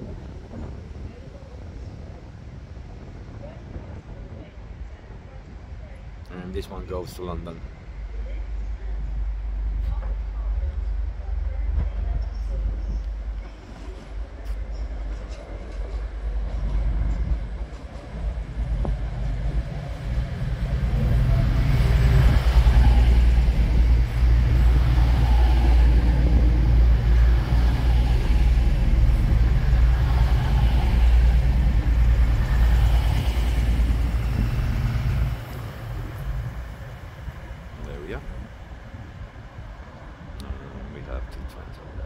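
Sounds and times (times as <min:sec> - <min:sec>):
diesel train rumbling: 0:00.0 - 0:42.0.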